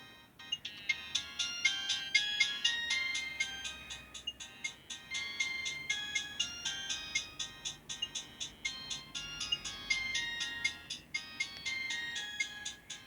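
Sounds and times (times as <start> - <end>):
mobile phone ringtone: 0.0 - 13.0.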